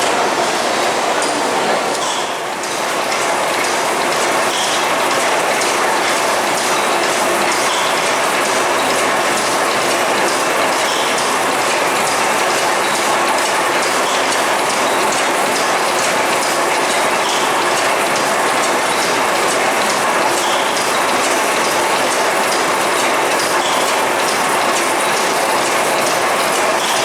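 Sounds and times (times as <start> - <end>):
steam engine rhythmic clatter: 0.0 - 27.0.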